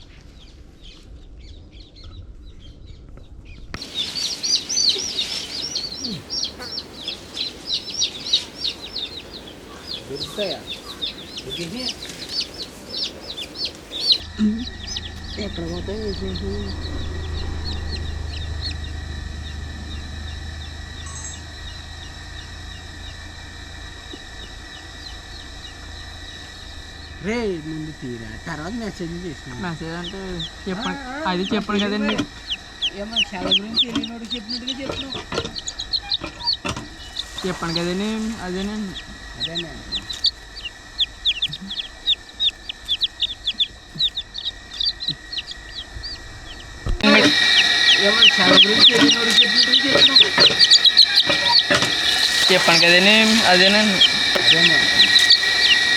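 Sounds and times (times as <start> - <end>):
chicks peeping: 0.0 - 55.9
low rumble: 0.0 - 55.9.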